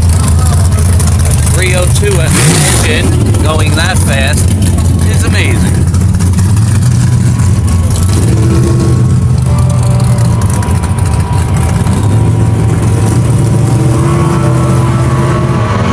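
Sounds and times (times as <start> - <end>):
car engine idling: 0.0 - 15.5.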